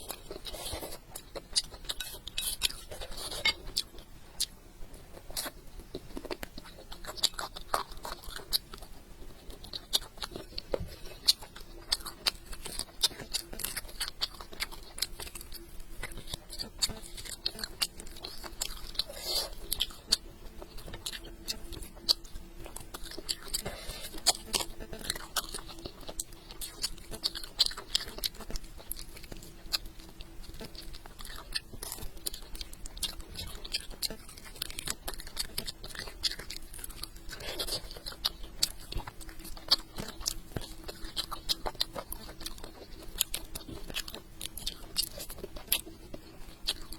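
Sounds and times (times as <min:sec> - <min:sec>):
person chewing and biting: 0:00.0 - 0:46.9.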